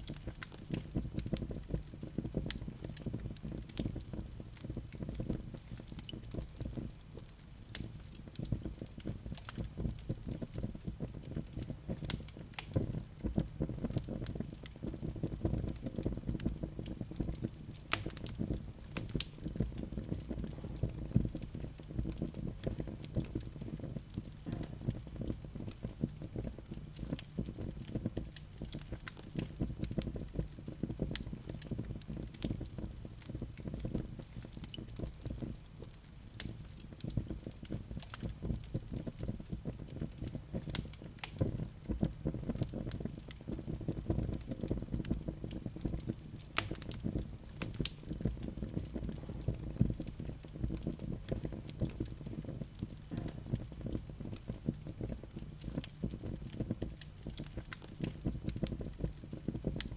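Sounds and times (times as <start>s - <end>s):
fire crackles and pops: 0.0s - 59.9s
low rumble of fire flames: 0.0s - 59.9s.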